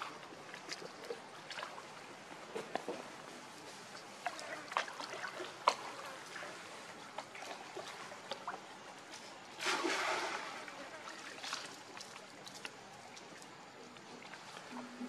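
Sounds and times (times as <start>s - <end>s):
water drips: 0.0s - 3.0s, 3.7s - 6.5s, 7.1s - 15.0s
water splashing and trickling: 0.0s - 15.0s.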